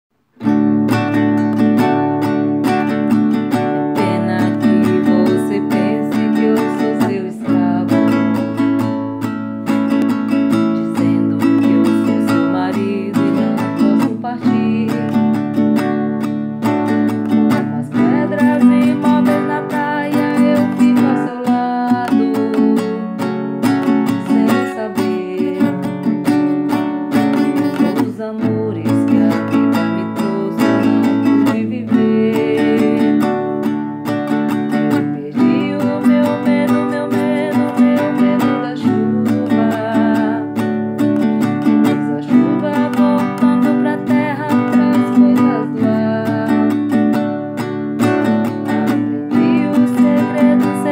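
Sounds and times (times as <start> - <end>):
acoustic guitar strumming chords: 0.2 - 50.9.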